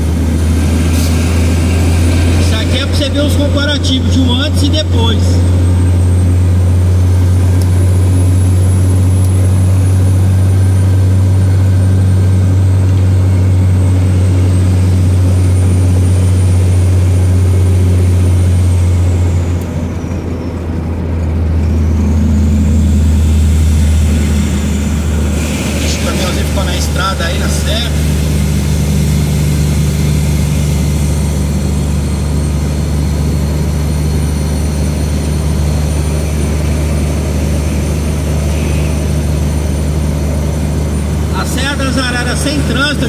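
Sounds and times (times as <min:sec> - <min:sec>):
vehicle engine drone: 0:00.0 - 0:43.0.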